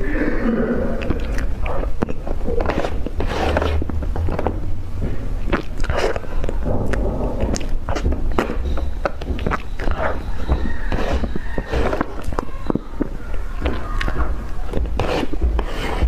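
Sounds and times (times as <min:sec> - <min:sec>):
low steady hum: 0:00.0 - 0:16.0
crunchy food chewing: 0:00.9 - 0:16.0.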